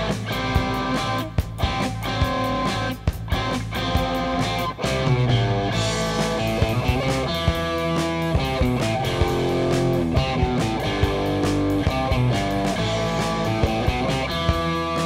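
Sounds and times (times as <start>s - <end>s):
bass guitar: 0.0s - 15.0s
drum and cymbal hits: 0.0s - 15.0s
electric guitar melody: 0.0s - 15.0s.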